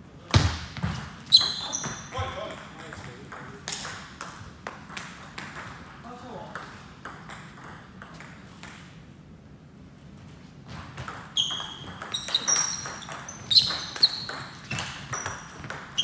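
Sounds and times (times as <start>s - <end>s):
ping-pong ball hitting bats and table: 0.3s - 9.1s, 10.7s - 16.0s.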